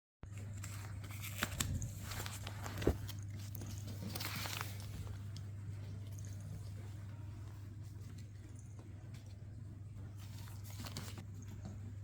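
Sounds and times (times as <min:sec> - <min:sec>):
steady low hum: 0:00.3 - 0:12.0.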